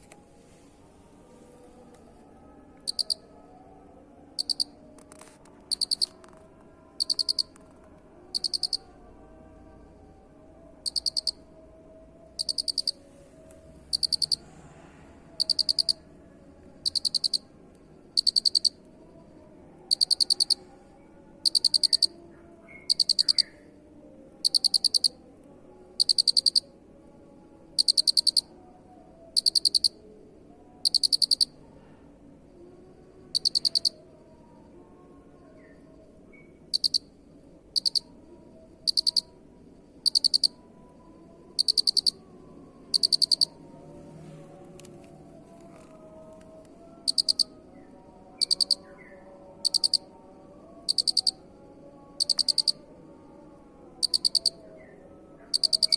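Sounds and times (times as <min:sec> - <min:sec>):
cricket chirping: 0:02.2 - 0:03.5, 0:04.3 - 0:44.4, 0:45.1 - 0:55.9.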